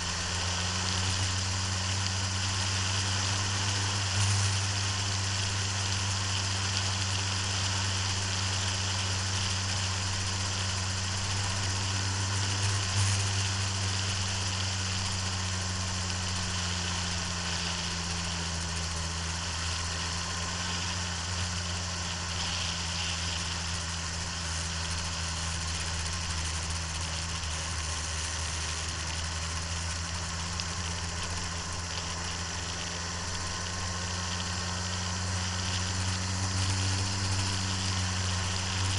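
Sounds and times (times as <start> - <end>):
motorcycle engine: 0.0 - 38.9
wind and road rush: 0.0 - 38.9.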